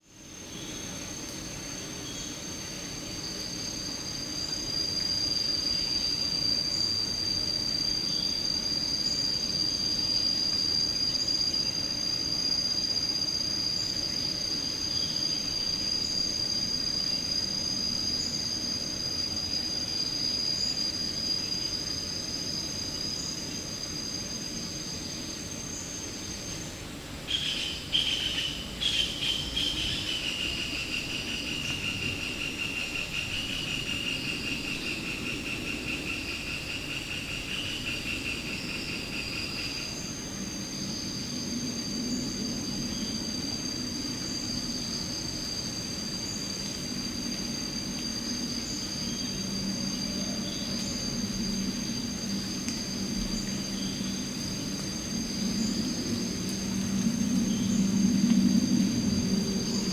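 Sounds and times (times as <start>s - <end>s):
high insect drone: 0.0s - 59.9s
lower pulsing insect call: 0.0s - 59.9s.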